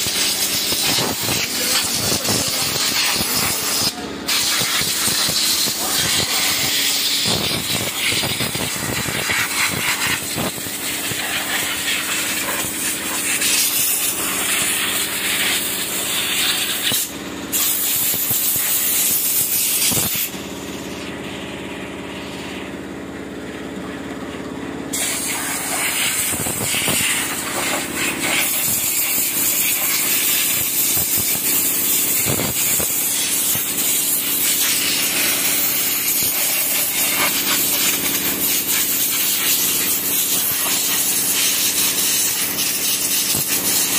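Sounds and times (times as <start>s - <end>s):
pressure washer jet hissing: 0.0s - 21.0s, 24.9s - 43.9s.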